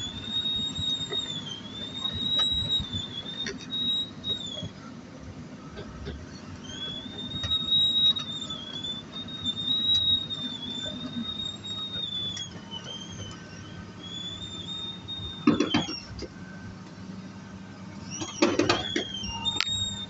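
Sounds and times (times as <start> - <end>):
excavator engine running: 0.0 - 20.0
excavator squealing: 0.0 - 20.0.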